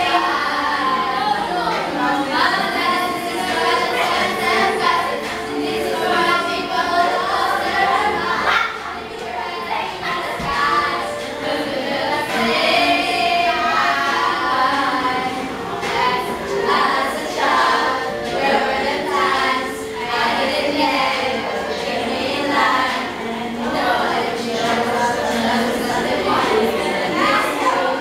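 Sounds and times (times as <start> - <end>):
group of teenagers singing: 0.0 - 28.0.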